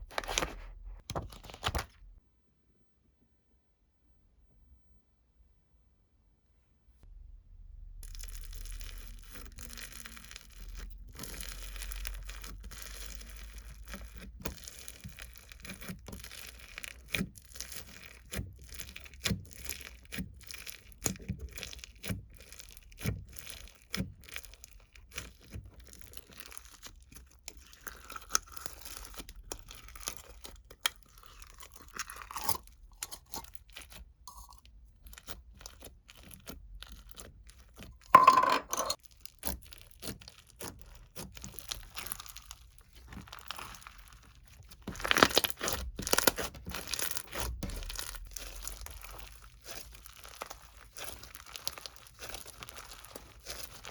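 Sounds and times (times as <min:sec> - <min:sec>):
crunching and crackling: 0:08.0 - 0:38.2, 0:38.9 - 0:53.9.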